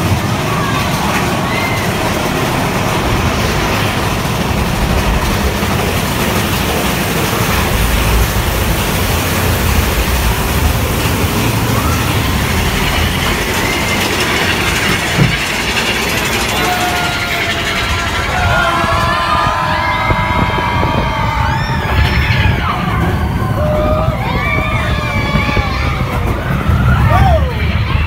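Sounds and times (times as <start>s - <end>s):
ride vehicle rumbling and rattling: 0.0s - 28.0s.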